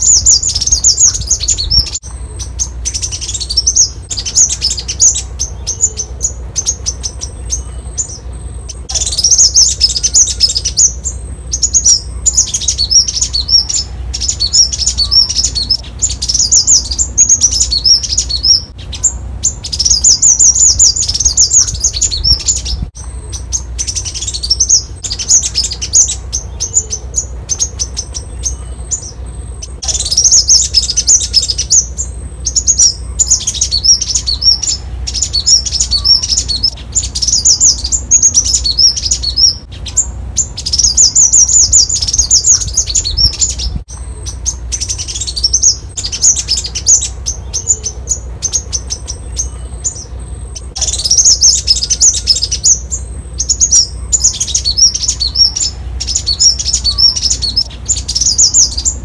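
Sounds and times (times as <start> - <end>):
bird twittering chirps: 0.0 - 59.0.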